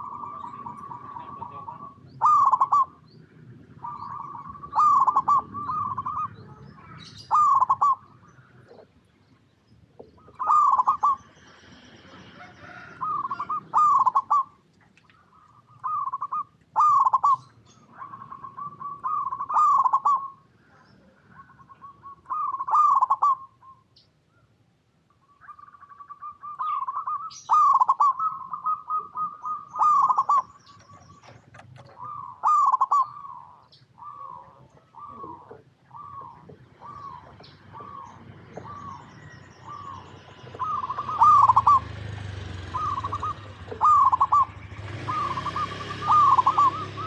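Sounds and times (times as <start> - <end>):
dove cooing: 0.0 - 9.0, 10.0 - 14.6, 15.2 - 23.8, 25.4 - 47.0.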